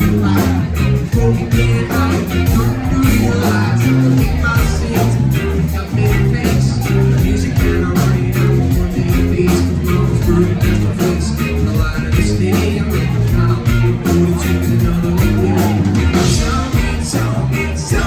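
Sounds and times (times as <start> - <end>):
bass guitar: 0.0 - 18.0
drums: 0.0 - 18.0
electric guitar: 0.0 - 18.0.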